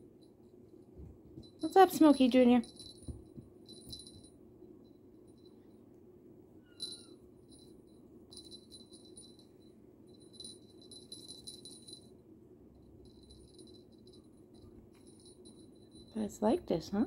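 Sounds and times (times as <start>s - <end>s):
low room hum: 0.0s - 17.0s
small bell jingling: 1.4s - 5.8s, 6.6s - 12.2s, 12.8s - 17.0s.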